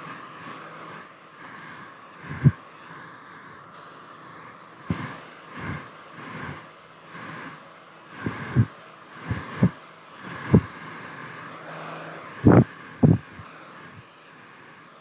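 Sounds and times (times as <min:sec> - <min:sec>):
hair dryer whirring: 0:00.0 - 0:15.0.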